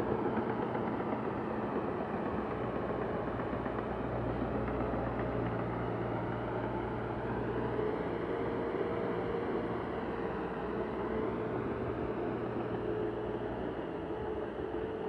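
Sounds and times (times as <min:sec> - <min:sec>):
heavy diesel machinery engine hum: 0:00.0 - 0:15.0.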